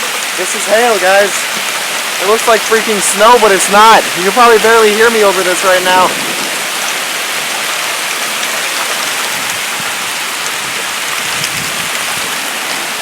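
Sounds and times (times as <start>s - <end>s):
hailstones ticking: 0.0s - 13.0s
heavy rain hiss: 0.0s - 13.0s.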